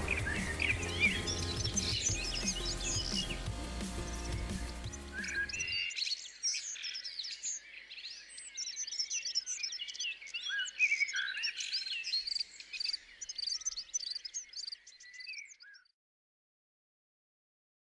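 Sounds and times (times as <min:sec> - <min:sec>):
songbirds chorus: 0:00.0 - 0:15.9.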